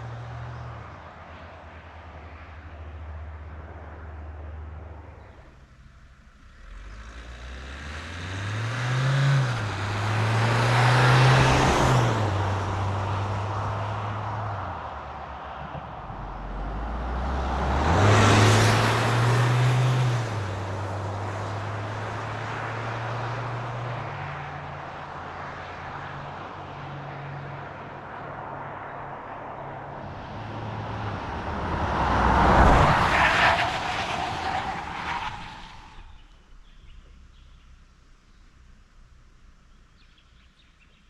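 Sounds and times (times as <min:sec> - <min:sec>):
diesel engine driving: 0:03.5 - 0:40.0.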